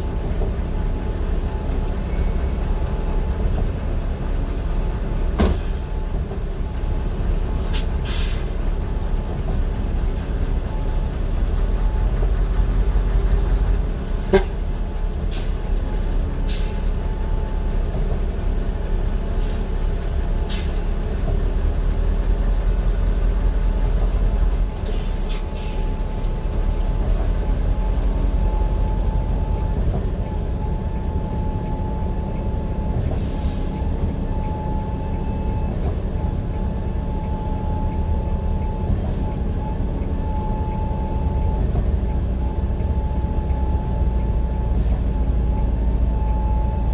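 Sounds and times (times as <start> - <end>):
vehicle running rumble: 0.0 - 46.9.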